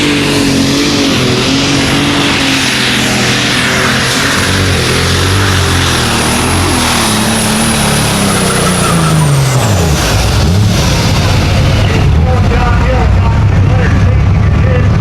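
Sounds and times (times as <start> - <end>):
high whine: 0.0 - 15.0
tractor engine running hard: 0.0 - 15.0.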